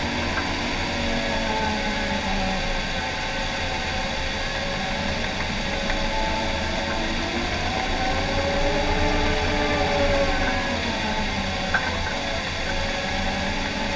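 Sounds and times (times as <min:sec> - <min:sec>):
engine whine: 0:00.0 - 0:13.9.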